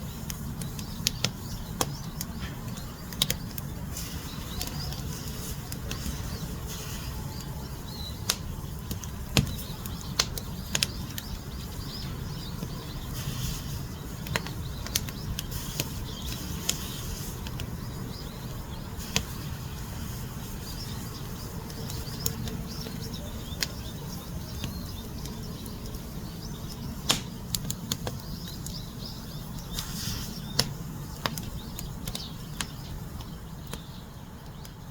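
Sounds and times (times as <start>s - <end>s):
burning logs crackling: 0.0s - 34.9s
low rumble of flame: 0.0s - 34.9s.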